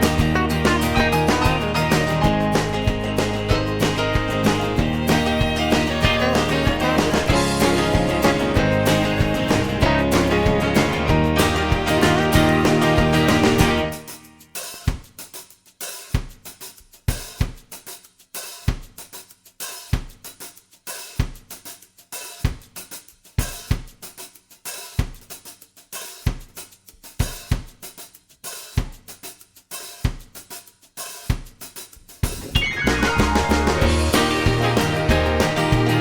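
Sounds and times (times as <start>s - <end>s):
drum kit beat: 0.0s - 36.0s.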